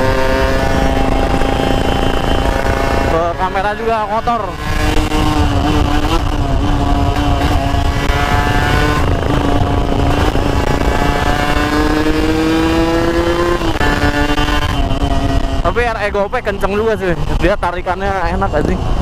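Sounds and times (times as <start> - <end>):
motorcycle engine accelerating: 0.0 - 19.0
wind rush on microphone: 0.0 - 19.0.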